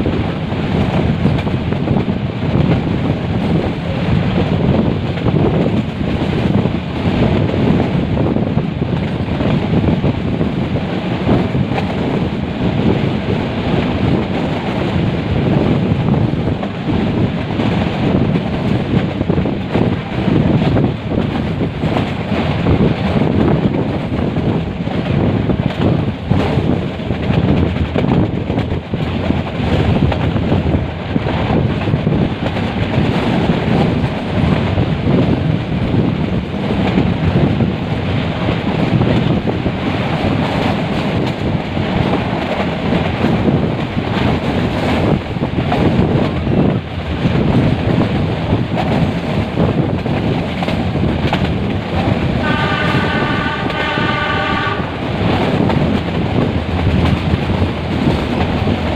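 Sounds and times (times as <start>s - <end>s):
train running noise: 0.0s - 58.9s
wind buffeting microphone: 0.0s - 58.9s.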